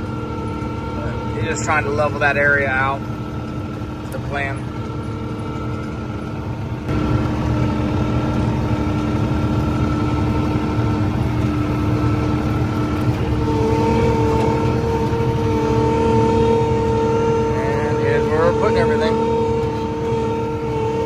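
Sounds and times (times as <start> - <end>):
skid steer engine running: 0.0 - 21.0
steady whine: 0.0 - 21.0.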